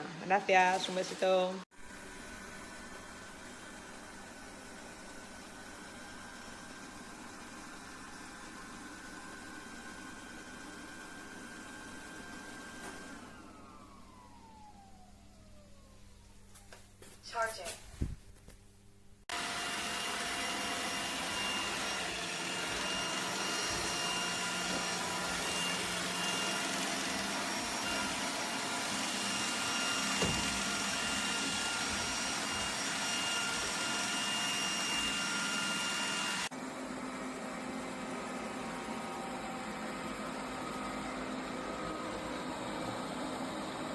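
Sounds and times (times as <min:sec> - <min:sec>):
vacuum motor whining: 0:00.0 - 0:16.8, 0:19.3 - 0:43.9.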